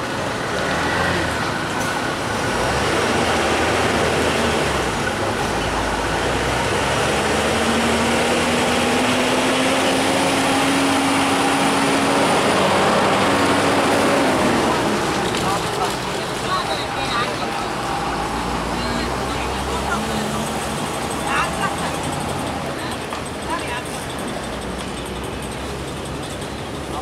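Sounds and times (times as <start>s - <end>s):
train rumbling along track: 0.0s - 27.0s.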